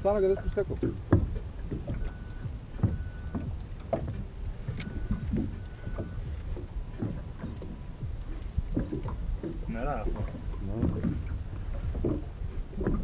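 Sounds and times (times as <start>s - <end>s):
low rumble of wind: 0.0s - 13.0s
waves lapping against boat hull: 0.0s - 13.0s.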